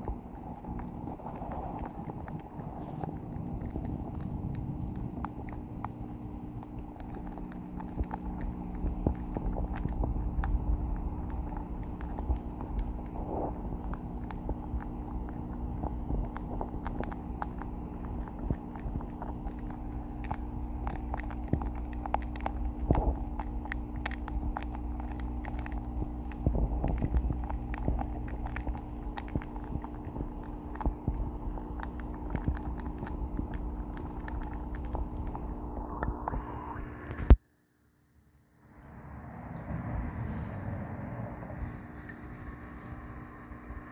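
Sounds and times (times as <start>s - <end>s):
small underwater clicks and taps: 0.0s - 36.4s
underwater low hum and rumble: 0.0s - 43.9s.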